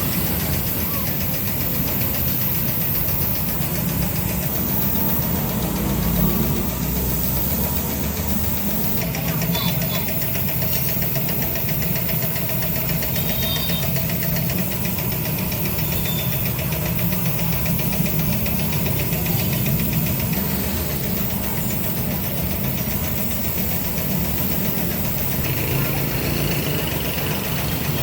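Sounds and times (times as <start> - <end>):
machine knocking rhythmically: 0.0 - 28.0.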